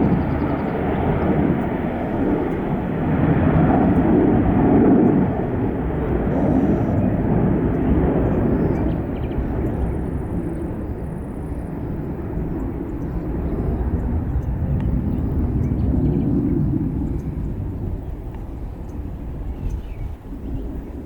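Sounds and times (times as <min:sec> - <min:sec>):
jet engine low rumble: 0:00.0 - 0:21.0.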